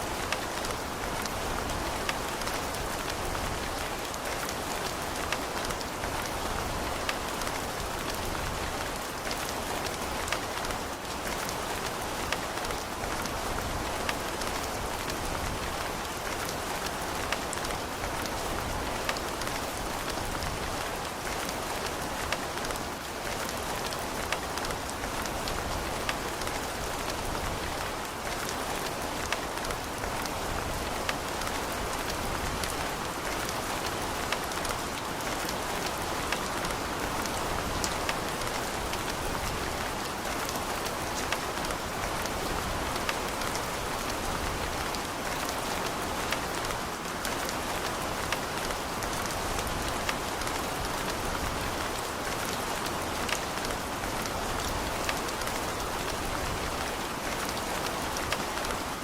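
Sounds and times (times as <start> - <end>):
rain pattering on a surface: 0.0 - 59.0.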